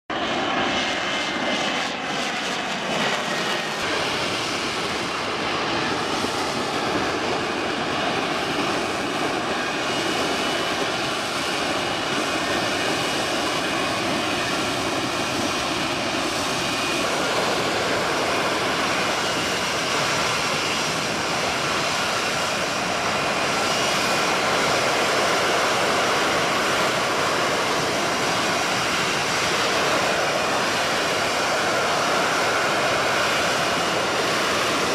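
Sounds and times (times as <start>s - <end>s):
jet engine running: 0.1s - 34.9s.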